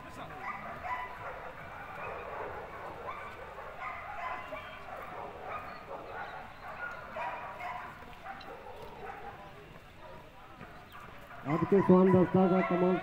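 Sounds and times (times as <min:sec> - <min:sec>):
dogs yipping and whining: 0:00.3 - 0:09.4, 0:10.8 - 0:13.0.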